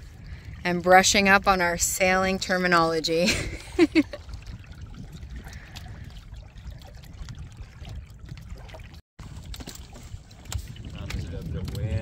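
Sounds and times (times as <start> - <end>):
water lapping against hull: 0.0 - 12.0
wind rumble on microphone: 0.0 - 12.0.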